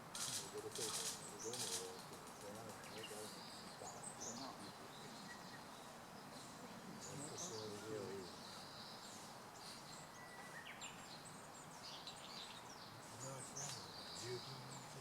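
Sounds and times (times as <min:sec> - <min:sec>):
birds chirping faintly: 0:00.0 - 0:15.0
outdoor background noise: 0:00.0 - 0:15.0.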